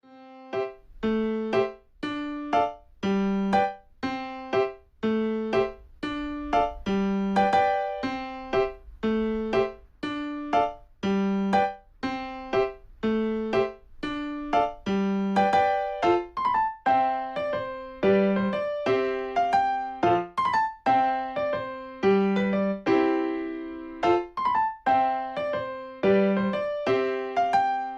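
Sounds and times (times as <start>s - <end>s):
light piano tune: 0.0s - 27.9s.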